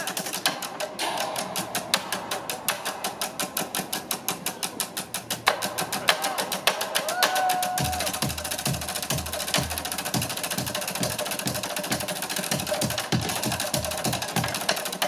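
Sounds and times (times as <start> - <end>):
deep low drum beats: 0.0 - 15.0
fast even drum tapping: 0.0 - 15.0.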